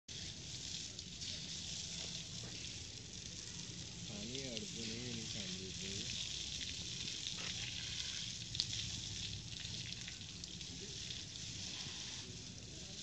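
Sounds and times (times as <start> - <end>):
water spraying from hose: 0.1 - 13.0.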